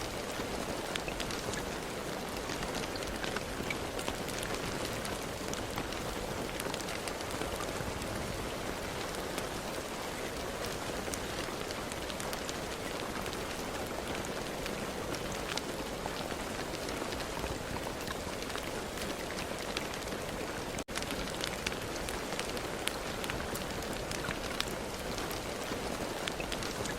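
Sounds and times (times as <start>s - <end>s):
rain downpour hiss: 0.0s - 26.9s
raindrops ticking on a surface: 0.0s - 26.9s.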